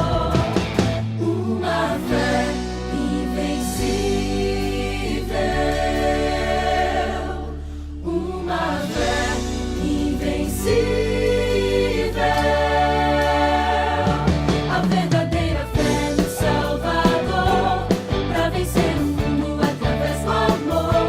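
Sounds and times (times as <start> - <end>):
choir singing held chords: 0.0 - 21.0
steady bass: 0.0 - 21.0.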